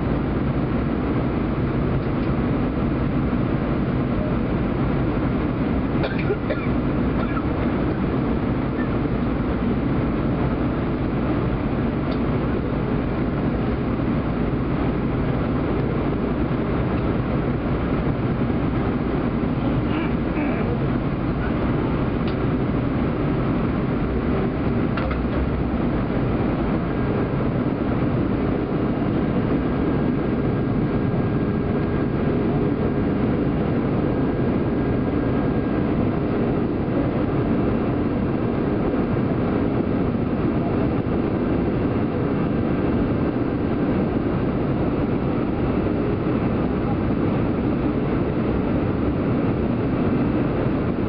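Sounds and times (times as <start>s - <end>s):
aircraft engine rumble: 0.0s - 51.0s
airflow past fuselage: 0.0s - 51.0s
faint steady whine: 0.0s - 51.0s.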